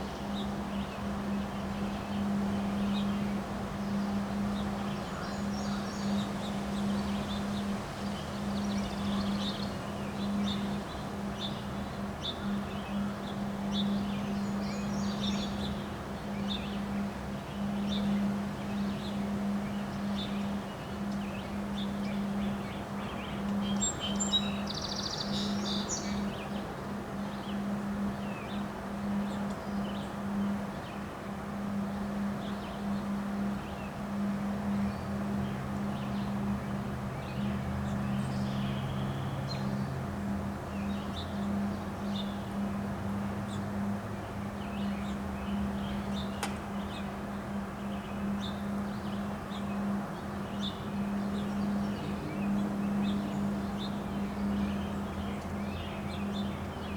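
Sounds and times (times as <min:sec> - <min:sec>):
birds chirping: 0:00.0 - 0:56.9
steady low hum: 0:00.0 - 0:56.9.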